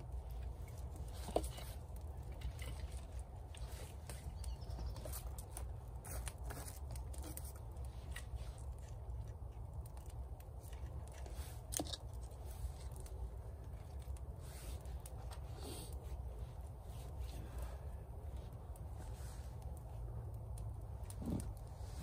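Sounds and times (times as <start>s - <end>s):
dry twigs snapping and crackling: 0.0s - 22.0s
low steady rumble: 0.0s - 22.0s.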